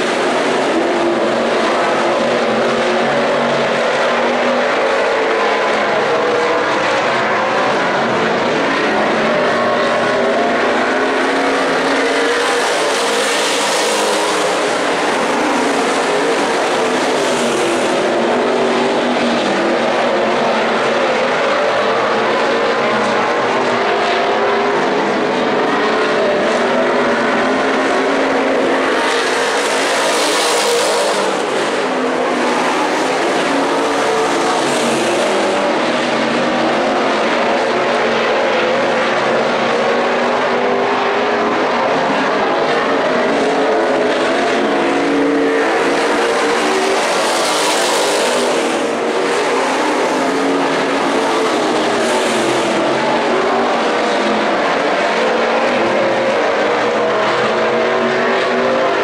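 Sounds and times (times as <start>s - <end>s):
race car engines: 0.0s - 59.0s.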